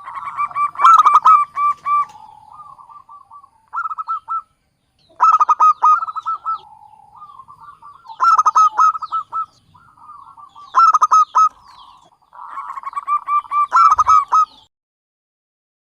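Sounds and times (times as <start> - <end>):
dove cooing: 0.0 - 14.7.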